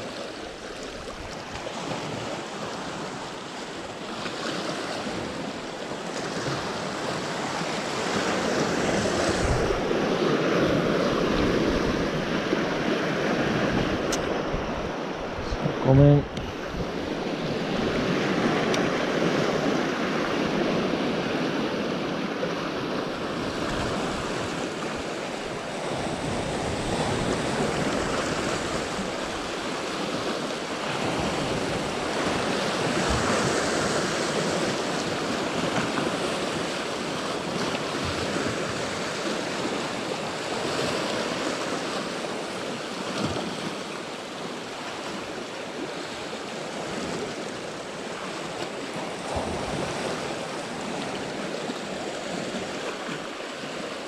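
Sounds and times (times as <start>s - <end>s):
sea surf washing in: 0.0s - 54.0s.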